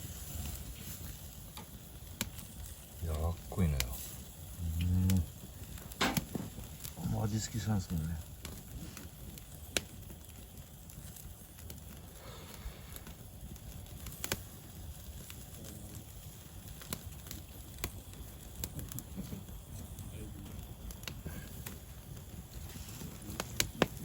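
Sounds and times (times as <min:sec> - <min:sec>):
fire low rumble: 0:00.0 - 0:24.0
fire pops: 0:00.0 - 0:24.0
wood fire crackling: 0:00.0 - 0:24.0.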